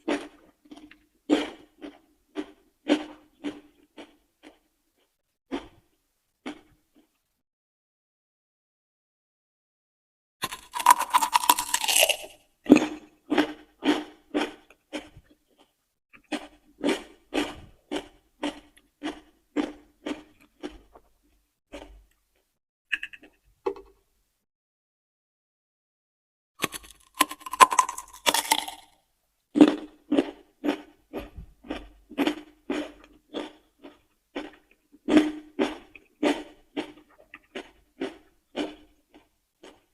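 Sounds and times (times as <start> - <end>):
crunchy chewing of vegetable: 0.0 - 7.2, 10.4 - 23.4, 26.6 - 39.9.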